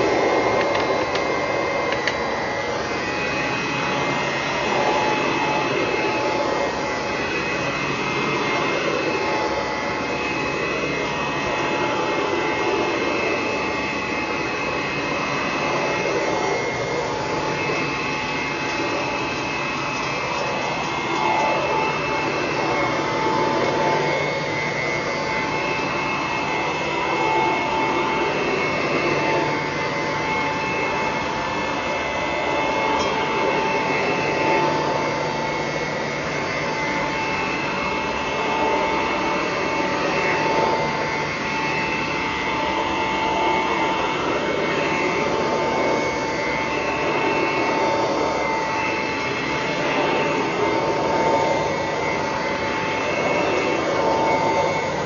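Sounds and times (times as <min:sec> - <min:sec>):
vacuum cleaner motor whining: 0:00.0 - 0:55.0.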